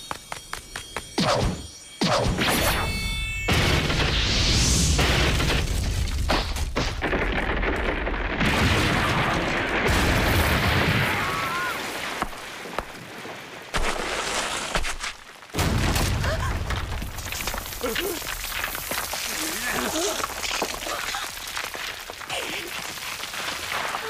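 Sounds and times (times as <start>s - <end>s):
sharp cracks and impacts: 3.5s - 13.0s, 13.7s - 24.0s.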